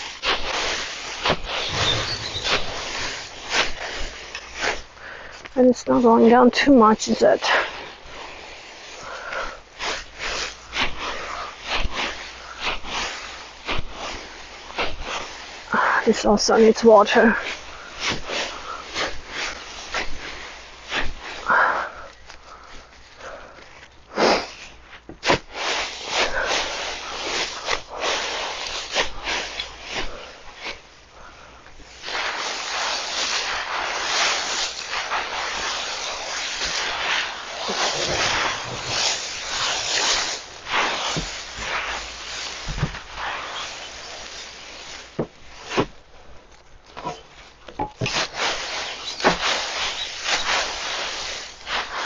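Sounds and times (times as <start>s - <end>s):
dry leaves rustling and crunching: 0.0s - 52.0s.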